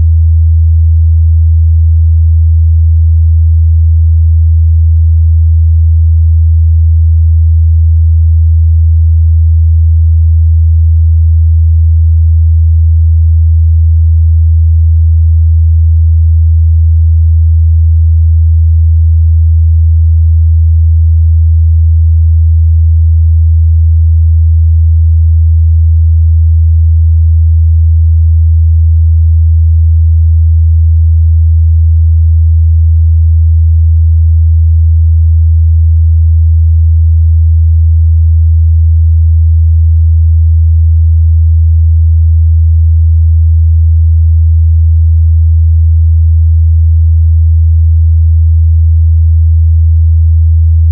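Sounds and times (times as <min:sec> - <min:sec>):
low sine-wave test tone: 0:00.0 - 0:46.6, 0:50.2 - 0:50.9.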